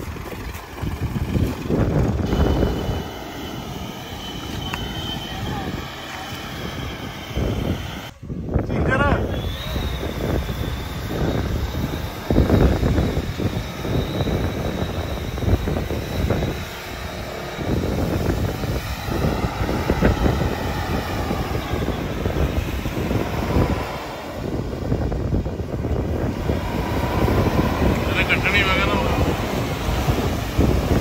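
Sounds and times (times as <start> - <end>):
vehicle engine running unevenly: 0.0 - 8.1, 9.4 - 31.0.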